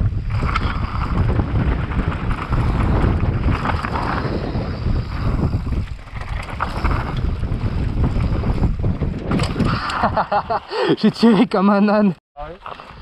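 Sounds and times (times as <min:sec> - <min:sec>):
bike clicks and rattles: 0:00.0 - 0:10.6
low rumble of bike ride: 0:00.0 - 0:10.7
wind rushing on microphone: 0:00.0 - 0:10.7.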